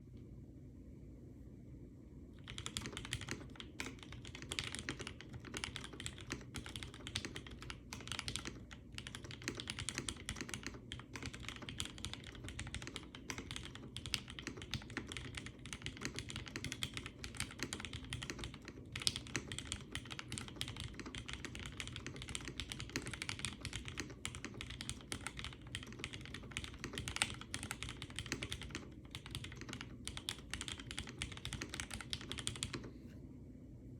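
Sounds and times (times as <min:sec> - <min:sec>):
fast typing on mechanical keyboard: 0:02.4 - 0:32.9.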